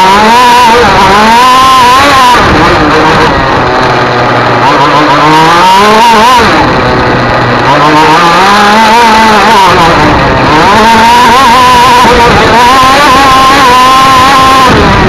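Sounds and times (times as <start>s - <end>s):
racing engine revving: 0.0s - 15.0s.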